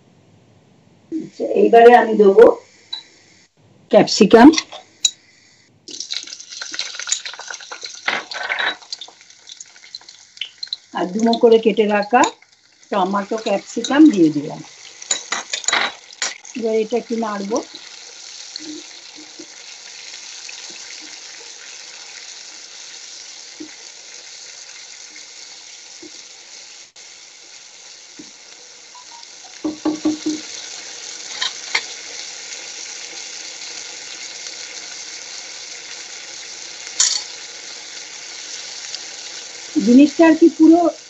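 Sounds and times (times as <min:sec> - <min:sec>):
vegetables sizzling in hot oil: 0:01.4 - 0:03.5, 0:04.2 - 0:41.0.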